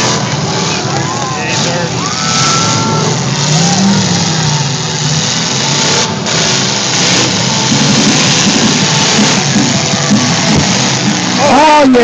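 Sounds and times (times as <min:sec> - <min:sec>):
car engines revving: 0:00.0 - 0:12.0
dense steady roar: 0:00.0 - 0:12.0.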